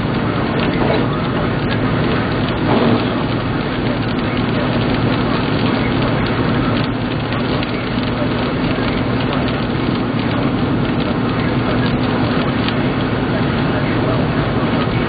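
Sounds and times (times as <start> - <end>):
hailstones clicking: 0.0 - 15.0
rain and hail pattering on car: 0.0 - 15.0
tyre noise on wet road: 0.0 - 15.0.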